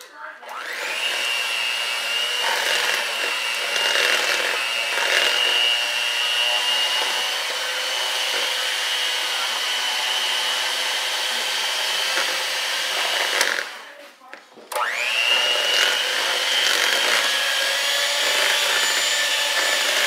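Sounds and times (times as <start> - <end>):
electric hand mixer whining: 0.4 - 13.9, 14.7 - 20.0.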